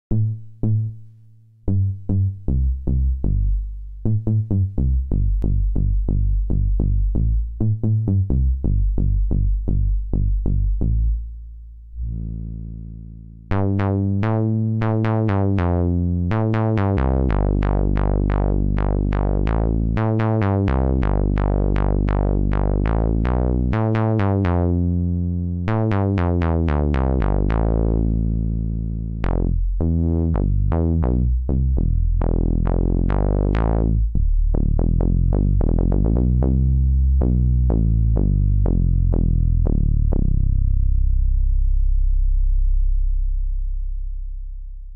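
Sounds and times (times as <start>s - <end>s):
analog synth bass line: 0.1s - 44.9s.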